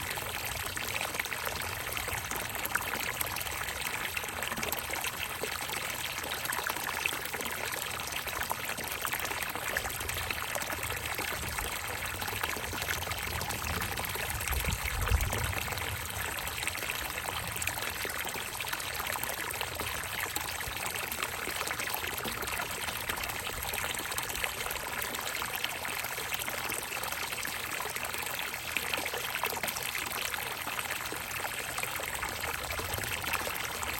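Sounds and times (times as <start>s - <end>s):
water pouring into a bucket: 0.0s - 33.9s.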